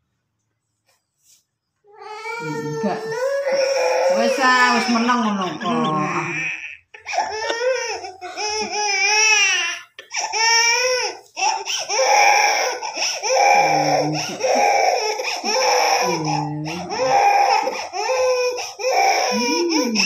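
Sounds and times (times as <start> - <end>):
baby crying: 1.9 - 20.0.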